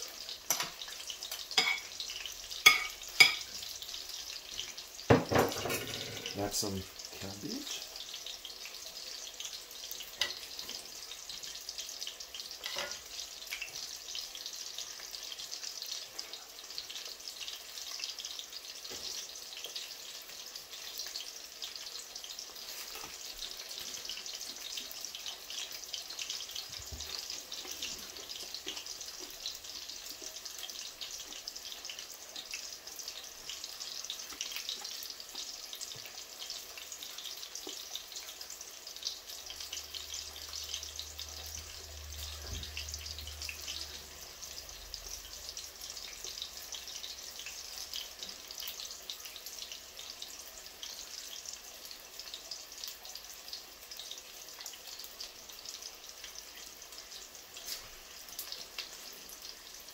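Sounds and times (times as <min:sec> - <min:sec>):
batter sizzling in oil: 0:00.0 - 0:59.9.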